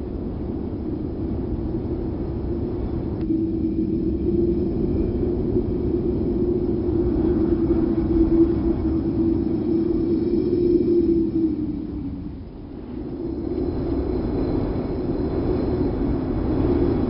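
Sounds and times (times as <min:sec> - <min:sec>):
low rumbling wind: 0:00.0 - 0:17.0.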